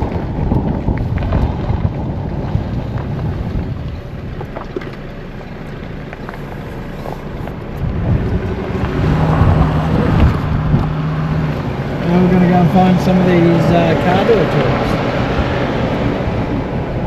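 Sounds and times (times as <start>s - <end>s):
car driving road rumble: 0.0s - 17.0s
wind buffeting microphone: 0.0s - 17.0s.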